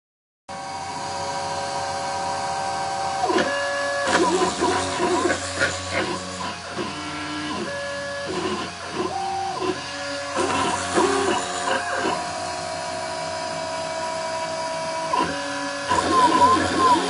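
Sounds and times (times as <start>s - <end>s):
stepper motors whining: 0.6s - 17.0s.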